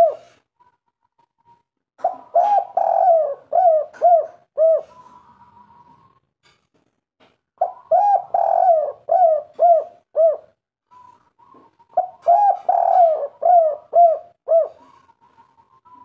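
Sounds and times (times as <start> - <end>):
dove cooing: 0.0 - 6.3, 7.6 - 16.0.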